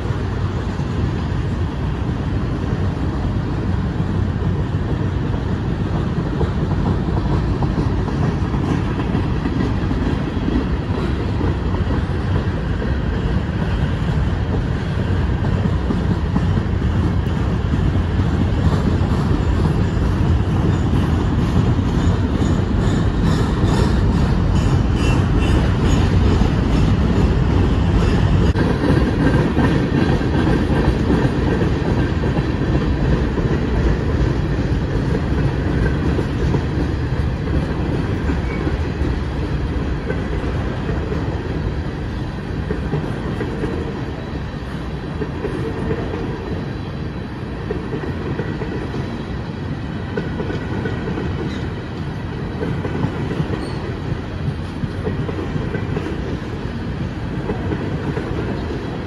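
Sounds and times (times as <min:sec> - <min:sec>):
steel train wheels on rails: 0:00.0 - 0:59.0.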